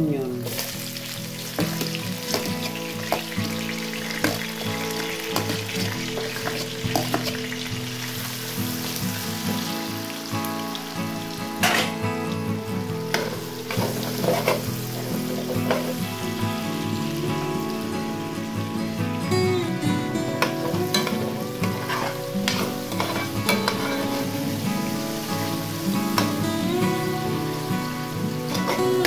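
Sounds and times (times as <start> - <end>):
onions sizzling in hot oil: 0.4 - 29.0.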